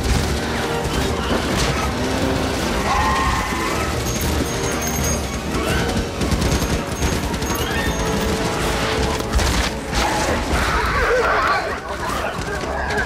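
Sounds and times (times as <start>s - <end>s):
film music score: 0.0s - 13.0s.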